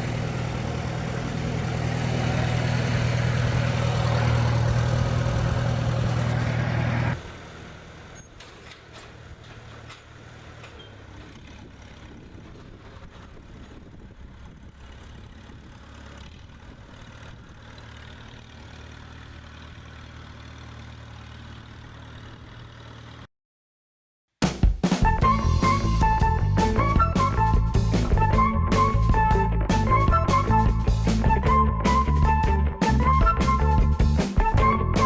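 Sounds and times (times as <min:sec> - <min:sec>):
tractor engine running: 0:00.0 - 0:23.3, 0:25.0 - 0:35.0.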